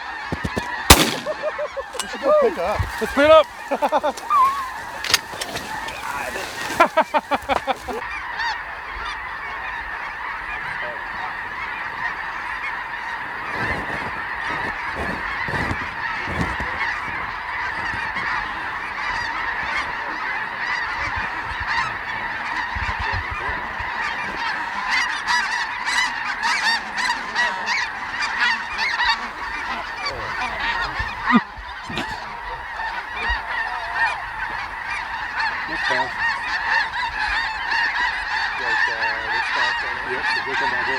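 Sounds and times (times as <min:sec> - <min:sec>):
flock of geese honking: 0:00.0 - 0:40.9.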